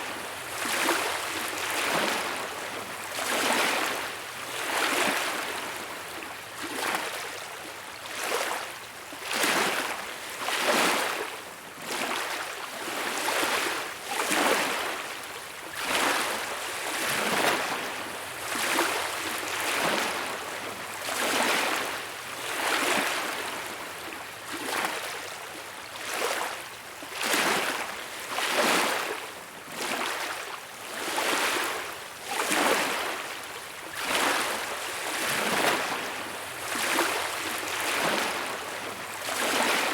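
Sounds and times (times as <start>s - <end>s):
waves lapping at shore: 0.0s - 39.9s.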